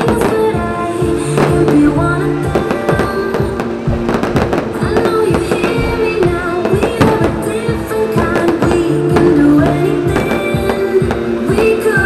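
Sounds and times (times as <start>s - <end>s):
music with singing voice: 0.0s - 12.0s
fireworks popping and crackling: 1.2s - 12.0s.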